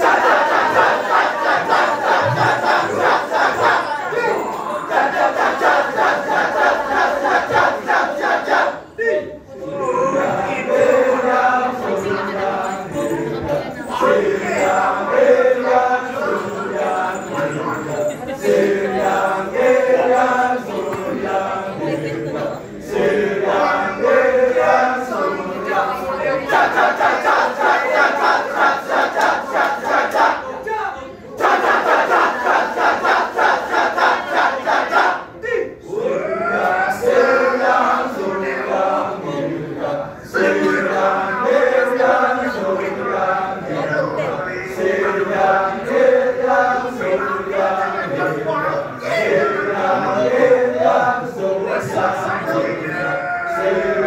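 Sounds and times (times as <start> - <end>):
men chanting together: 0.0 - 30.5, 31.4 - 54.0.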